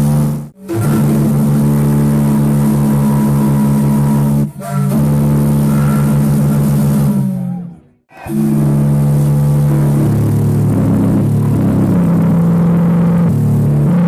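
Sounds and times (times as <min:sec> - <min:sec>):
deep ship's whistle blasts: 0:00.6 - 0:14.0.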